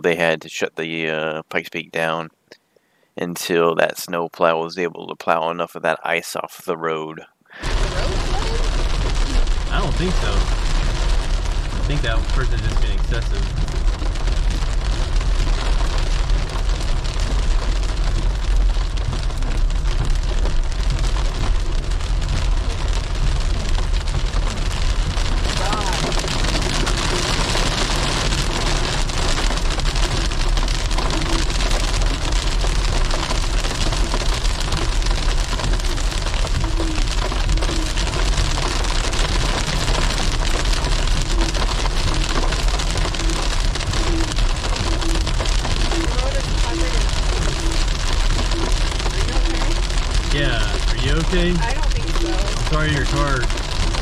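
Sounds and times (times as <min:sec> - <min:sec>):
car rolling on road: 0:07.6 - 0:54.0
hail pattering on a car: 0:07.6 - 0:54.0.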